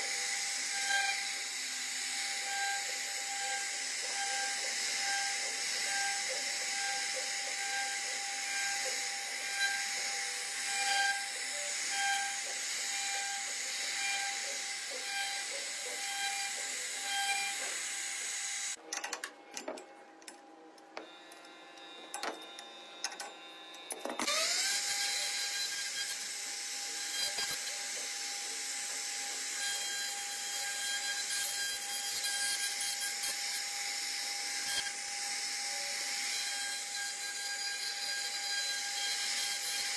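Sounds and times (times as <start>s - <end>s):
router spindle whine: 0.0s - 18.8s, 21.0s - 39.9s.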